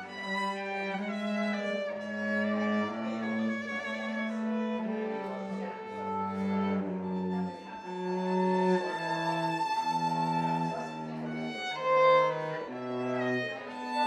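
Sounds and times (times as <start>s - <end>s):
slow bowed string music: 0.0s - 14.0s.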